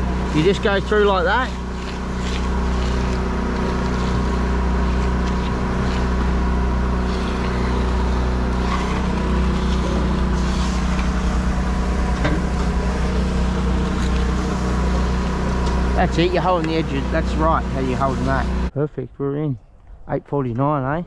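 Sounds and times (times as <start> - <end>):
engine droning steadily: 0.0 - 18.9.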